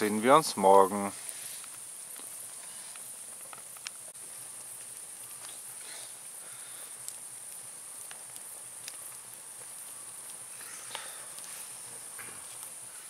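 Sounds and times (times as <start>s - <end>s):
campfire crackling and popping: 0.0s - 13.0s
insect chirring: 0.0s - 13.0s.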